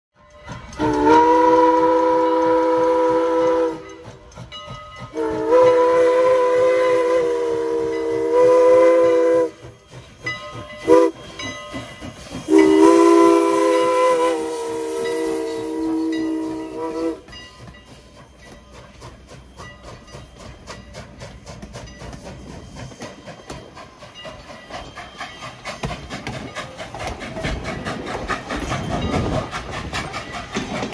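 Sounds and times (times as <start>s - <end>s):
chime steam whistle blasts: 0.2s - 30.6s
locomotive running: 0.2s - 30.9s
steam hissing: 0.5s - 30.9s.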